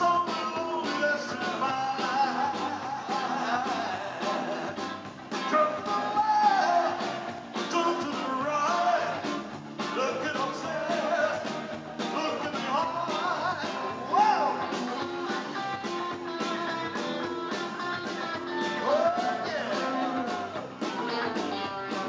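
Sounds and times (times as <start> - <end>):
man singing into a microphone: 0.0 - 4.9, 5.5 - 15.5, 18.4 - 21.4
drum kit: 0.0 - 22.0
electric guitars: 0.0 - 22.0.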